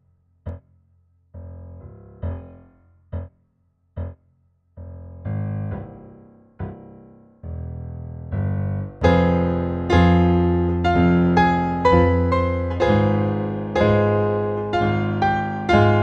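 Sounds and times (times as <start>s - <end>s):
solo piano chords: 1.4s - 3.4s, 4.8s - 16.0s.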